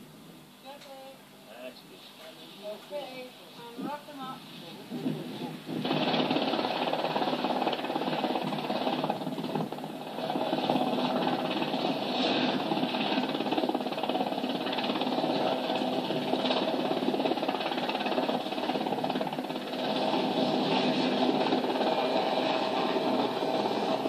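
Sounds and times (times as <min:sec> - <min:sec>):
helicopter rotors on television: 0:01.6 - 0:24.0.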